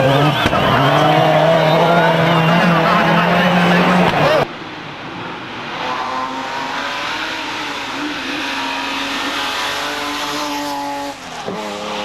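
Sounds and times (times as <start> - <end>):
rally car engine at high revs: 0.0 - 12.0
tyre and road noise: 0.0 - 12.0.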